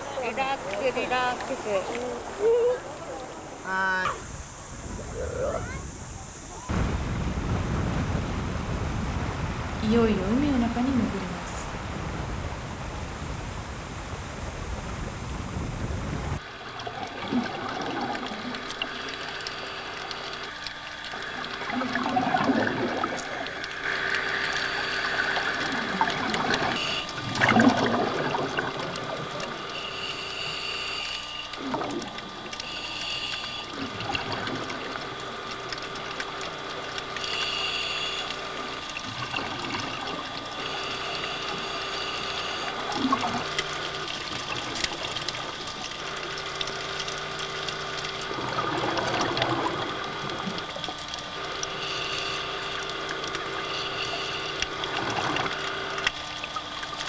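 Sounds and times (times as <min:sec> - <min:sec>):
regulator bubbles gurgling: 0:00.0 - 0:57.0
steady hum: 0:00.0 - 0:57.0.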